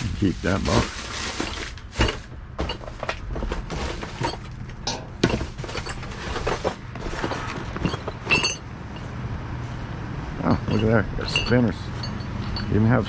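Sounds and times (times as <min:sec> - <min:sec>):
knocks clatter and rustling: 0:00.0 - 0:09.8, 0:10.5 - 0:13.0
low steady hum: 0:00.0 - 0:13.0.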